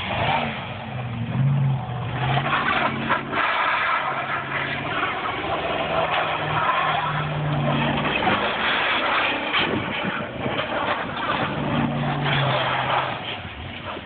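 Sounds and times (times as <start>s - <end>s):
truck engine revving: 0.0s - 14.0s
tyres churning snow: 0.0s - 14.0s.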